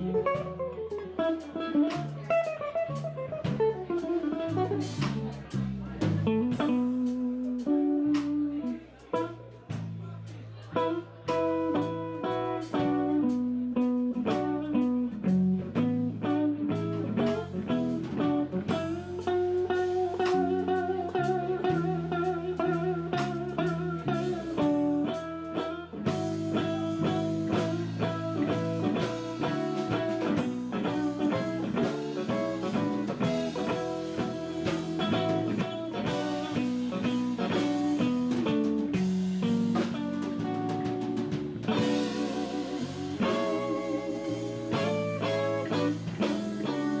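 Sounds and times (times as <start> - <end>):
bass guitar: 0.0 - 47.0
blues lead guitar: 0.0 - 47.0
drum kit: 0.0 - 47.0.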